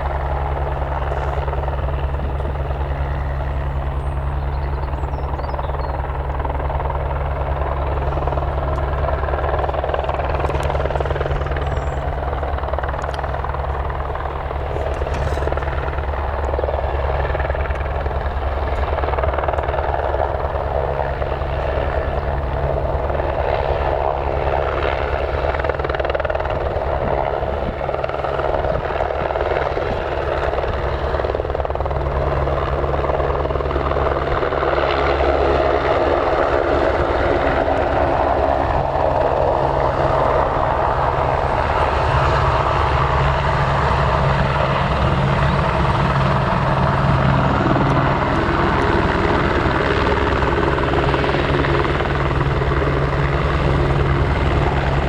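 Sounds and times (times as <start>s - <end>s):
helicopter rotor chop: 0.0s - 55.0s.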